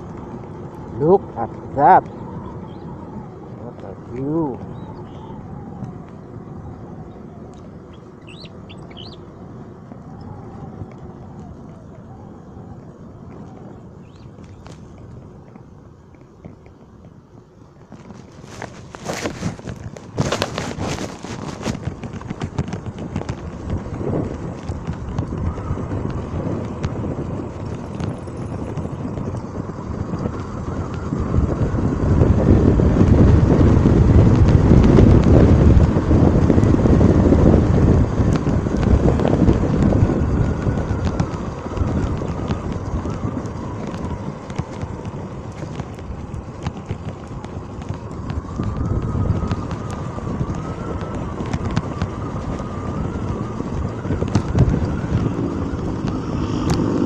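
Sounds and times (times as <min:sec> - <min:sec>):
faint wavering engine whine: 0:00.0 - 0:57.0
wind buffeting microphone: 0:00.0 - 0:57.0.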